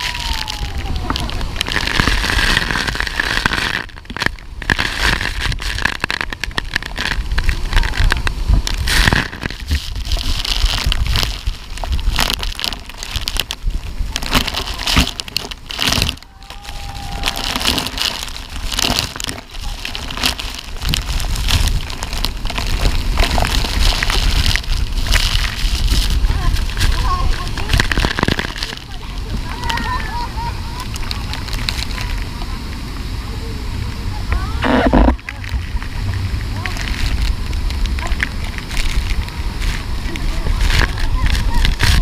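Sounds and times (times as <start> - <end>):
waterfall rushing: 0.0 - 9.8, 13.8 - 42.0
water beating on microphone: 0.0 - 42.0.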